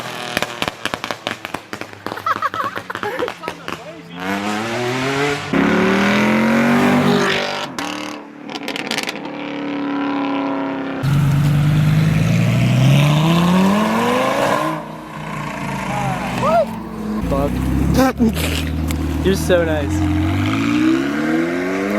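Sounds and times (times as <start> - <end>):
cars accelerating hard: 2.0 - 21.9.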